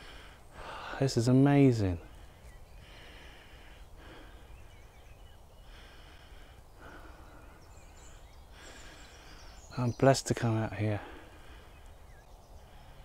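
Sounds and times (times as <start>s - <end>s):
soft breathing: 0.0s - 1.1s, 2.1s - 9.7s, 10.9s - 13.0s
faint bird chirps: 0.0s - 13.0s.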